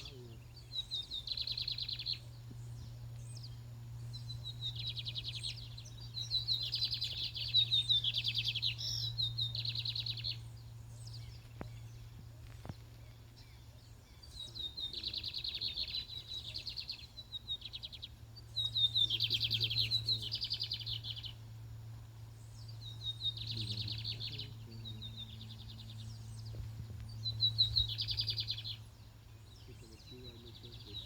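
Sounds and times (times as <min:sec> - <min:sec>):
bird chirping and trilling: 0:00.0 - 0:21.5, 0:22.3 - 0:31.0
steady low hum: 0:00.0 - 0:31.0.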